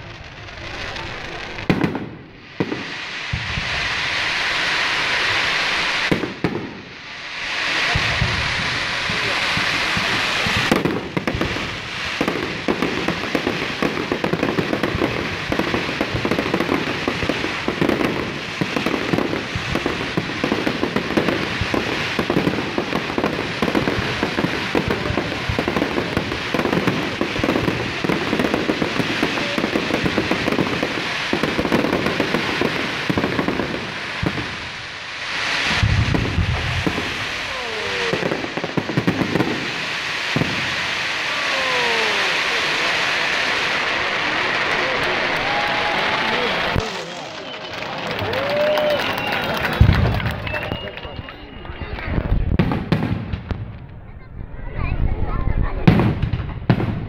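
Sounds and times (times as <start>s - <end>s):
fireworks crackling and banging: 0.0s - 57.0s
firework whistles: 0.2s - 53.4s.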